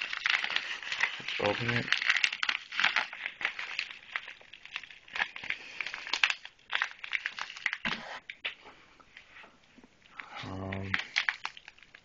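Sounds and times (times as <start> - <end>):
plastic package crinkling: 0.0 - 8.6, 10.0 - 12.0.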